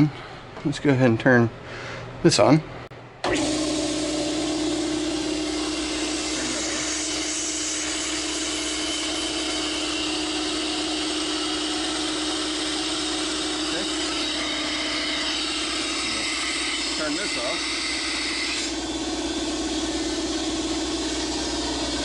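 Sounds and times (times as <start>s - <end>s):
air compressor running: 3.2s - 22.0s.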